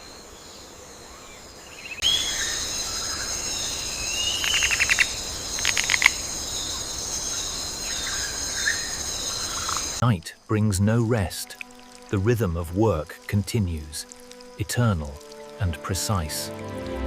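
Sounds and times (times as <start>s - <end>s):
high insect chorus: 0.0s - 16.6s.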